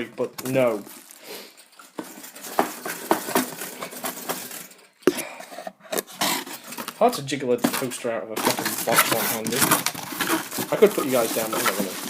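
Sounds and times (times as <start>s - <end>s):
cardboard packaging rustling: 0.2s - 12.0s.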